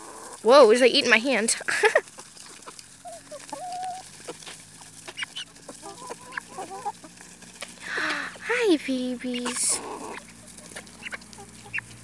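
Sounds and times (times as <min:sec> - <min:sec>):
beaks pecking feed: 0:00.0 - 0:12.0
chickens clucking: 0:00.0 - 0:12.0.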